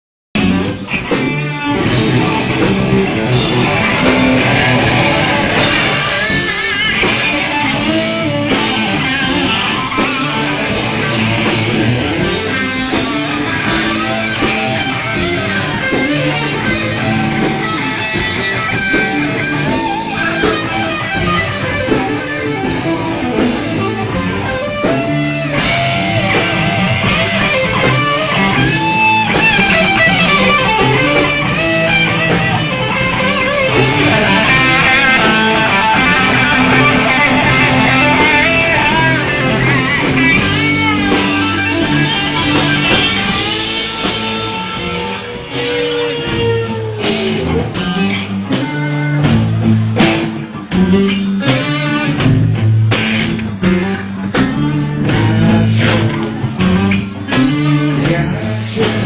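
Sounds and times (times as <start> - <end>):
drum kit: 0.4 - 59.0
electric guitar: 0.4 - 59.0.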